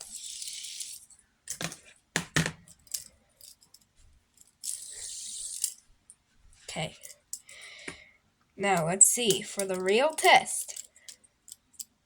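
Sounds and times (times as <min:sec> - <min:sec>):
fidget spinner clicks and clinking: 0:00.0 - 0:01.9, 0:02.7 - 0:07.8, 0:08.6 - 0:12.0.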